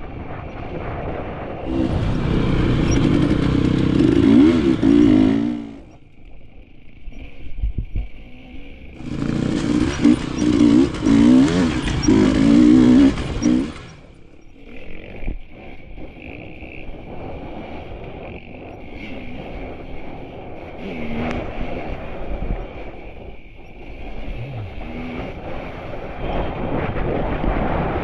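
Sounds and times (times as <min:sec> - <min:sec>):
motorcycle engine revving: 0:01.6 - 0:26.7.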